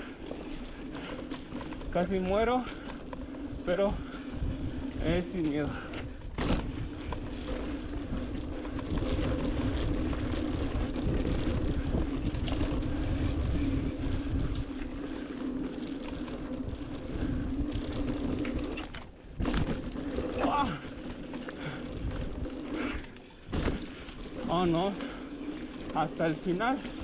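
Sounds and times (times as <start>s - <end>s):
wind rumble: 0.0s - 26.0s
bike tyres and frame rattle: 0.0s - 27.0s.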